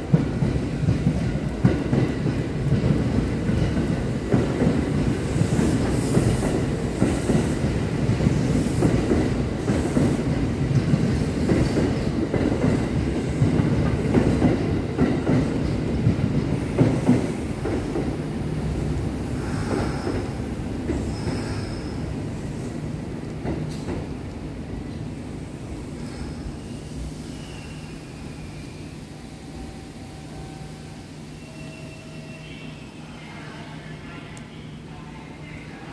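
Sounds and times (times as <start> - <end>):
electric train rumbling past: 0.0 - 35.9.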